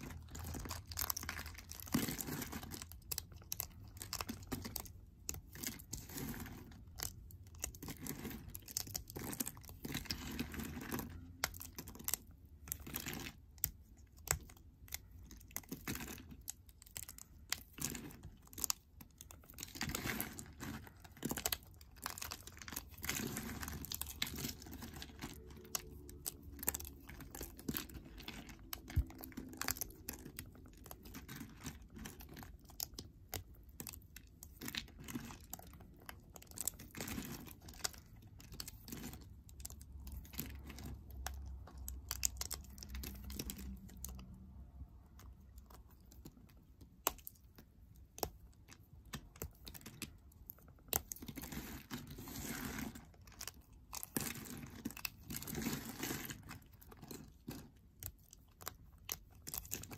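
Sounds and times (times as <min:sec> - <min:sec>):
soap crumbling between fingers: 0:00.0 - 0:59.9.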